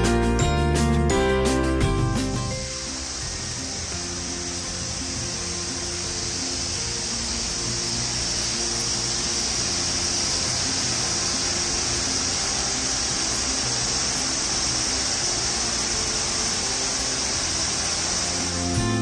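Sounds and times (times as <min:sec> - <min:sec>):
faint background music: 0:00.0 - 0:19.0
water rushing: 0:02.5 - 0:19.0.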